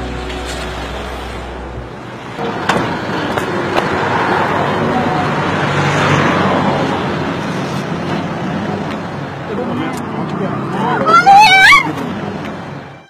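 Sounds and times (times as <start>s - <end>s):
low steady drone: 0.0s - 10.7s
vehicle passing on road: 0.0s - 13.0s.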